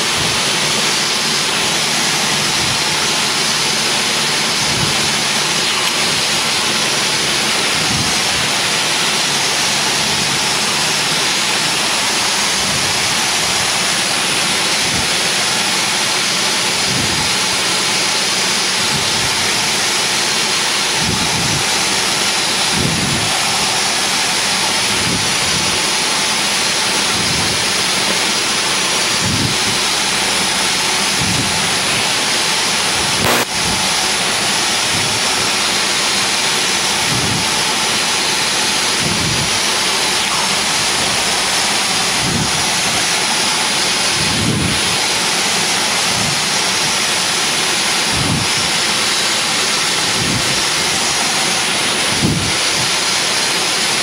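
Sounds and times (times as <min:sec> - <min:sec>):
aircraft engine and propeller: 0:00.0 - 0:54.0
rushing noise: 0:00.0 - 0:54.0.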